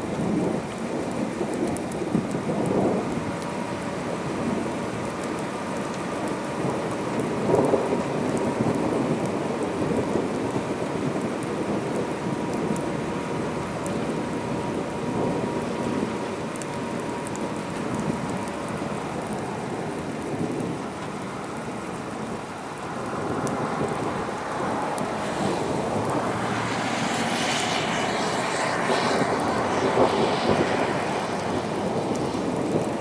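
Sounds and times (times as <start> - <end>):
thunderstorm rain falling: 0.0 - 33.0.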